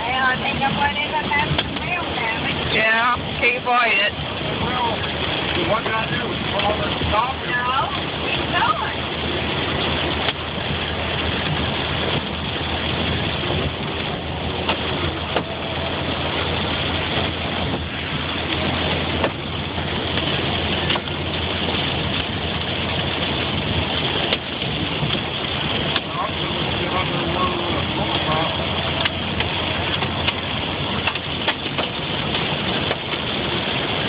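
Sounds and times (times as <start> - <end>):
car engine running: 0.0 - 34.0
hailstones knocking: 0.0 - 34.0
rain and hail drumming on car: 0.0 - 34.0.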